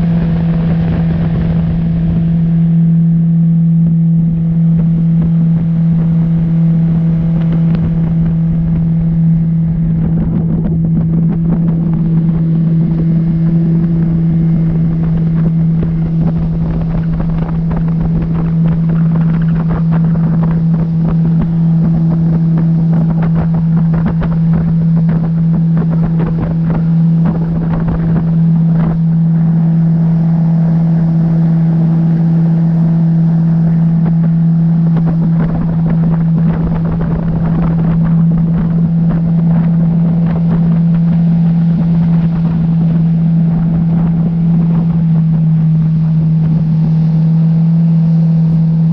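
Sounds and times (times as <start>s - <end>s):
boat motor running: 0.0s - 48.9s
wind buffeting microphone: 0.0s - 48.9s.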